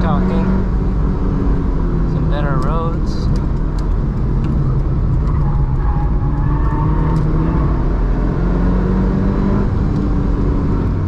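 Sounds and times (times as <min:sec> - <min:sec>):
car engine revving: 0:00.0 - 0:11.0
road noise: 0:00.0 - 0:11.0.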